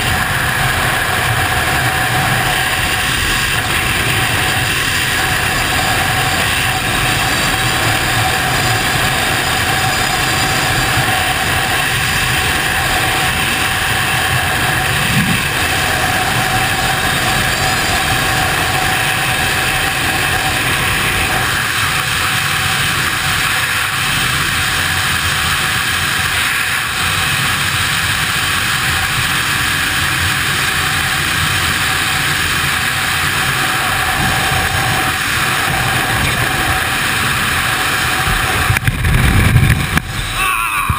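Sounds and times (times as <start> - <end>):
freefall wind rushing: 0.0 - 40.9.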